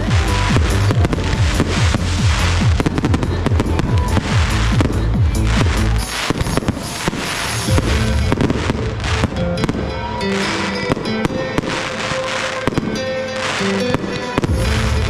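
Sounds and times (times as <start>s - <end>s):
fireworks bangs: 0.0s - 15.0s
fireworks hissing and crackling: 0.0s - 15.0s
music with sustained notes: 0.0s - 15.0s.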